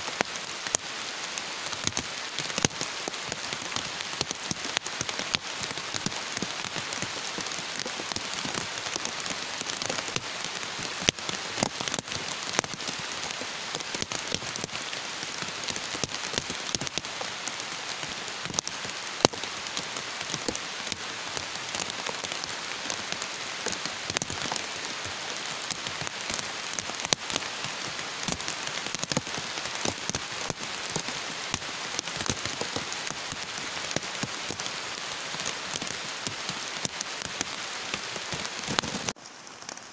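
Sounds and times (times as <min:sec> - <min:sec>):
heavy rain falling: 0:00.0 - 0:39.9
raindrops ticking close by: 0:00.0 - 0:39.9.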